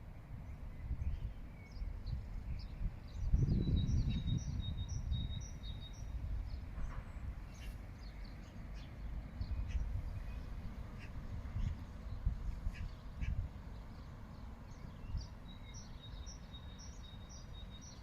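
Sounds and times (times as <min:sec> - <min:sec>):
small birds chirping: 0:00.8 - 0:18.0.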